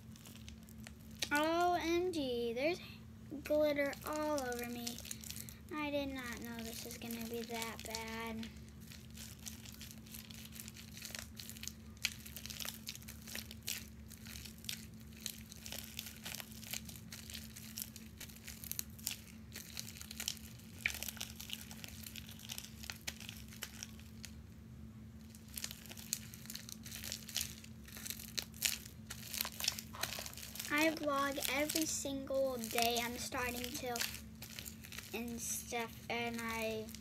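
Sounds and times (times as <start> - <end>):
slime squeezed by hand crackling: 0.0 - 1.7, 3.7 - 5.6, 6.2 - 24.4, 25.2 - 37.0
steady low hum: 0.0 - 37.0.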